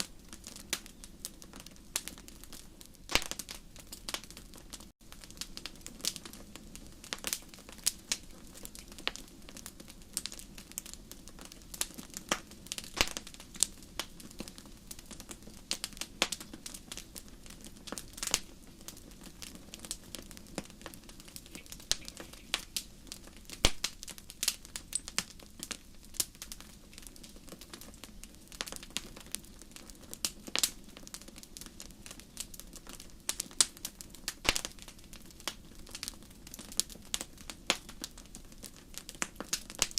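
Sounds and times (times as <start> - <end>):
fire low hiss: 0.0 - 39.9
wood fire crackling and popping: 0.0 - 39.9.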